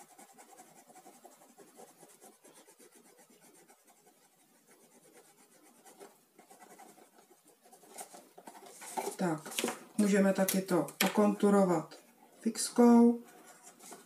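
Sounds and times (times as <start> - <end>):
pencil scratching on paper: 0.0 - 9.3, 11.4 - 14.0.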